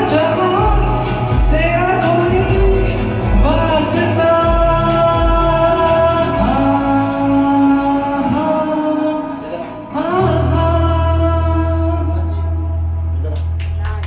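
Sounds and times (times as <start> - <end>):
low bass note: 0.0 - 8.4, 9.4 - 14.0
man singing long notes: 0.0 - 13.2
backing music: 0.0 - 14.0.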